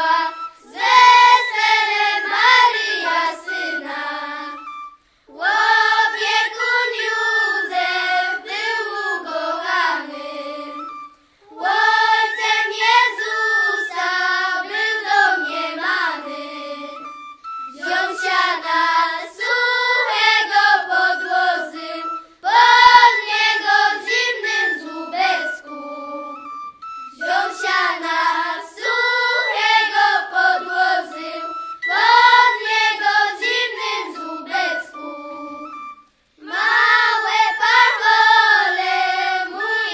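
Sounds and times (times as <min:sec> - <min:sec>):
children singing a carol: 0:00.0 - 0:26.5, 0:27.1 - 0:39.9.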